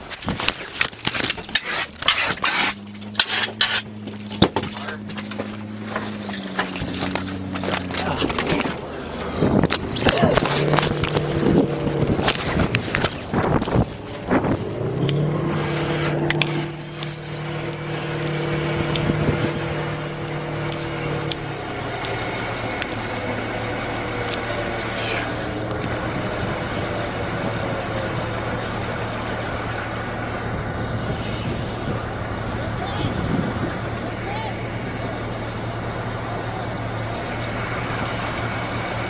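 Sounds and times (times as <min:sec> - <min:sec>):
engine humming: 0:00.0 - 0:39.0
high whine: 0:02.0 - 0:39.0.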